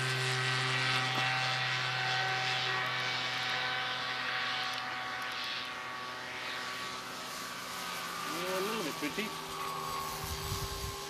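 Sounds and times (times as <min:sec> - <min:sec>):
model airplane propeller drone: 0:00.0 - 0:11.0.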